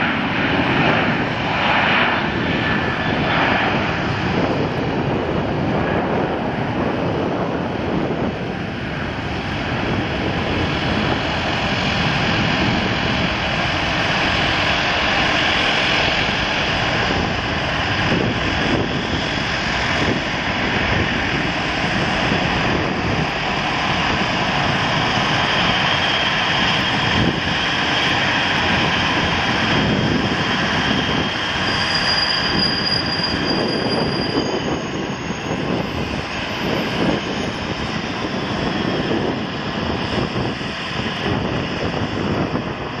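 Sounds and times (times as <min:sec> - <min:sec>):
jet engine roar: 0:00.0 - 0:43.0.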